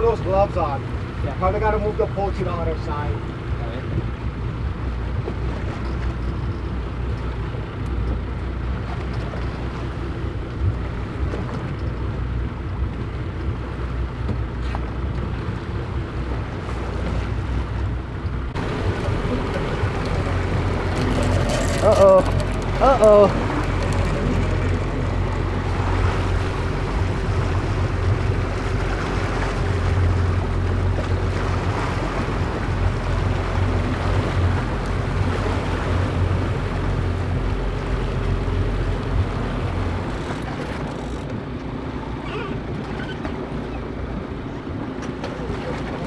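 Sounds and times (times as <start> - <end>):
boat engine droning: 0.0 - 46.0
waves washing past hull: 0.0 - 46.0
wind: 0.0 - 46.0.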